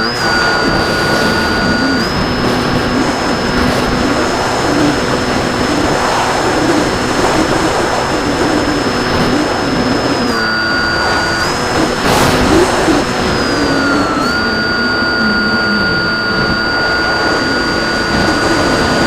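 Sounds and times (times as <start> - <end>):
model plane motor whine: 0.0 - 19.0
wind rush: 0.0 - 19.0.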